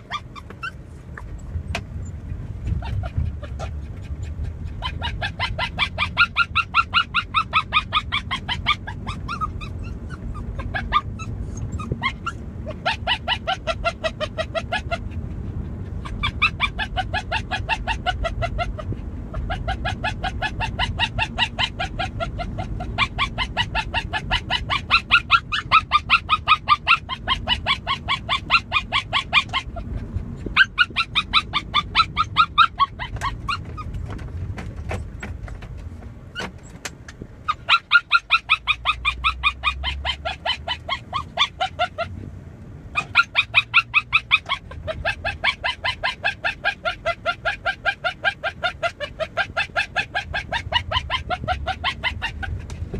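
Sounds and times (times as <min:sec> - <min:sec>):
small dog yipping and whining: 0:00.0 - 0:34.2, 0:37.4 - 0:42.2, 0:42.9 - 0:52.9.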